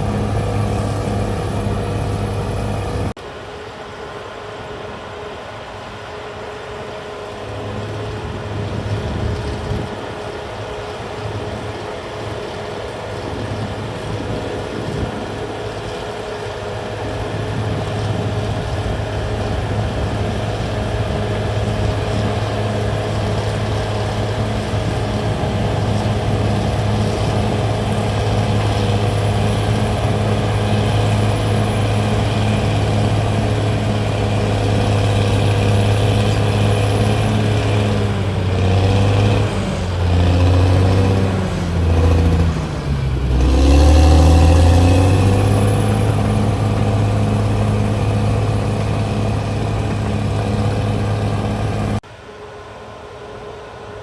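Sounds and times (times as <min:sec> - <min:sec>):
bulldozer diesel engine running: 0:00.0 - 0:03.2, 0:07.3 - 0:52.0.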